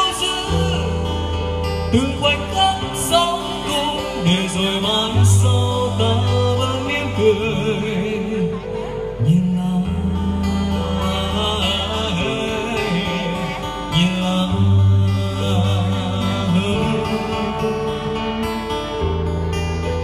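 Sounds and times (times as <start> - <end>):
man singing: 0.0 - 19.0
acoustic guitar strumming: 0.0 - 20.0.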